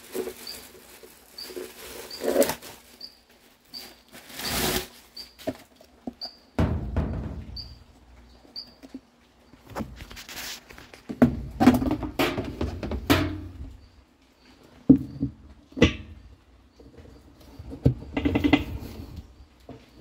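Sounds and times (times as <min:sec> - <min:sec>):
rustling and scraping: 0:00.0 - 0:20.0.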